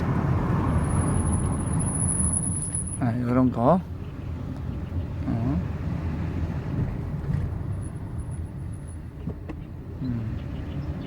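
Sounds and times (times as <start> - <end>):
road and drivetrain rumble: 0.0 - 11.0.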